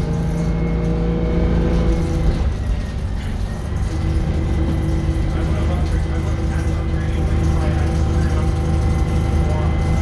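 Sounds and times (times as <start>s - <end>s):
diesel bus engine running: 0.0s - 10.0s.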